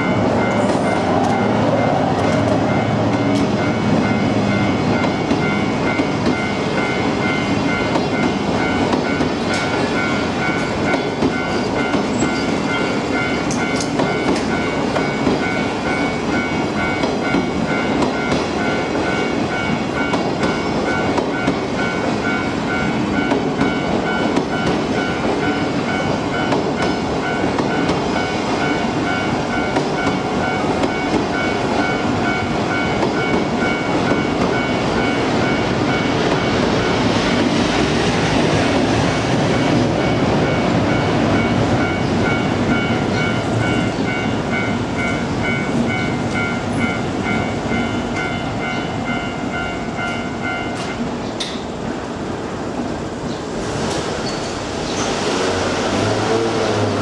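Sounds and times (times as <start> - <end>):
level crossing bell ringing: 0.0 - 37.0, 39.6 - 51.1
train wheels clicking over rail joints: 2.1 - 51.9, 52.7 - 57.0.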